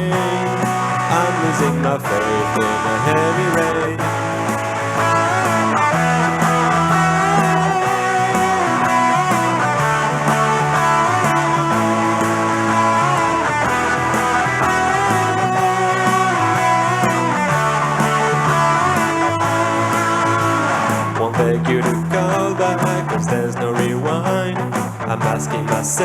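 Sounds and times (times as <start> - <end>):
bass notes: 0.0 - 26.0
electric guitar lead: 0.0 - 26.0
steady drum beat: 0.0 - 26.0.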